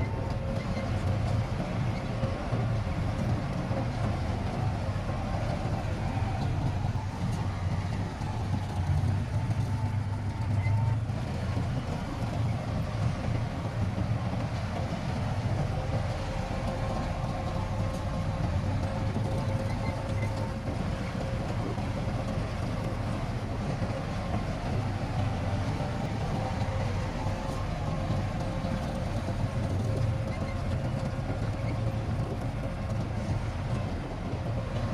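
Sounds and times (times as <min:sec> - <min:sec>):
diesel engine rumble: 0:00.0 - 0:34.9.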